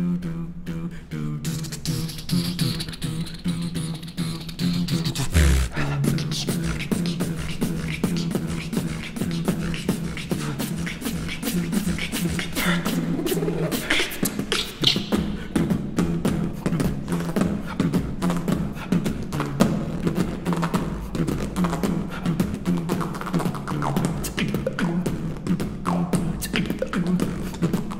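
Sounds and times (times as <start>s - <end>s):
person beatboxing: 0.0s - 27.9s.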